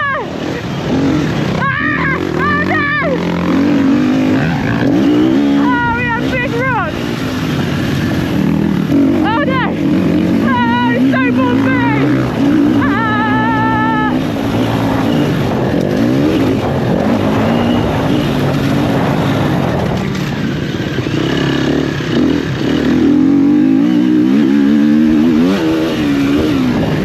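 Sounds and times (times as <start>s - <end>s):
motocross bike engine revving: 0.0s - 27.0s
wind and riding noise: 0.0s - 27.0s.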